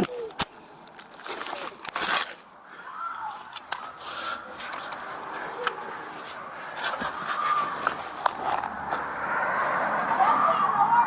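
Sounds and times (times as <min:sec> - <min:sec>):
faint voices: 0:00.0 - 0:09.3, 0:09.9 - 0:11.0
rustling and scraping: 0:00.0 - 0:09.4.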